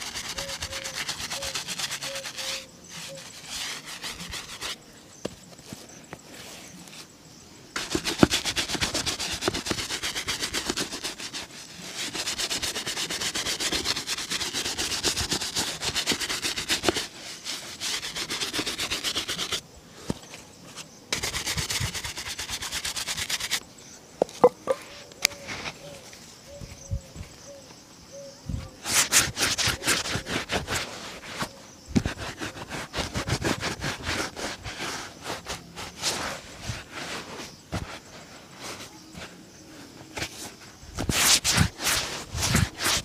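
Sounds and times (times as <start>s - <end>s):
rubbing strokes buffing a shoe: 0.0s - 7.2s, 7.8s - 19.6s, 20.7s - 23.7s, 28.8s - 43.0s.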